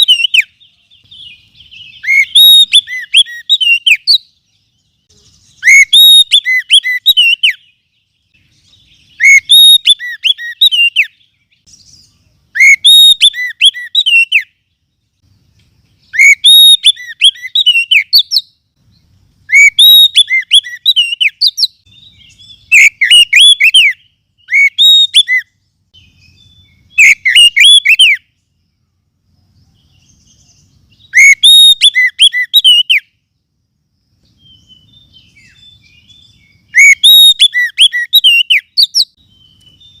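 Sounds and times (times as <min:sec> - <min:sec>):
bird whistling song: 0:00.0 - 0:28.7, 0:29.4 - 0:33.3, 0:34.2 - 0:40.0.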